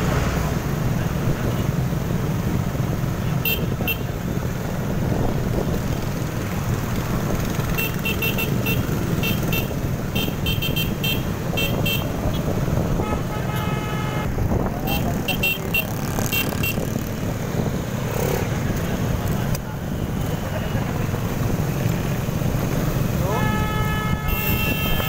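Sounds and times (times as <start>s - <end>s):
wind noise: 0.0s - 8.0s, 8.8s - 20.3s, 21.0s - 25.0s
motorcycle engine: 0.2s - 25.0s.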